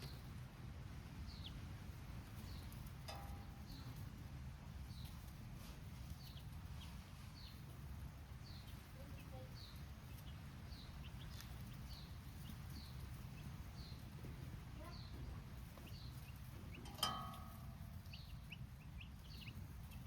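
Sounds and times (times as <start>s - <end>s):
baby chicks cheeping: 0.0s - 20.0s
low steady rumble: 0.0s - 20.0s.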